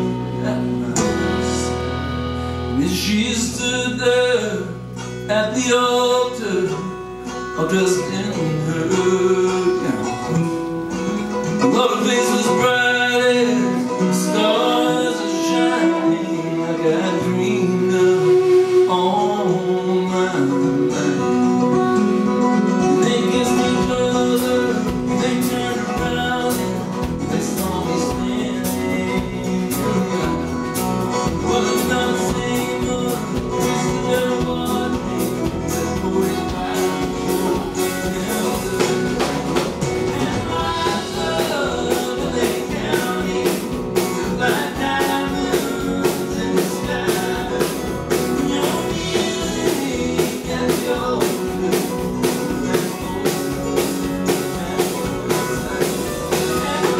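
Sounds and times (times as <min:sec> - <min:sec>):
live country band playing: 0:00.0 - 0:56.9.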